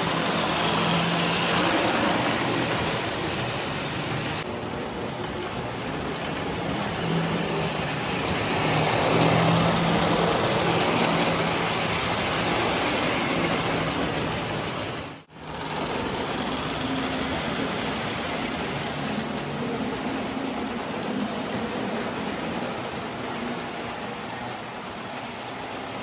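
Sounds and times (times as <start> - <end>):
toy train rumbling on track: 0.0 - 26.0.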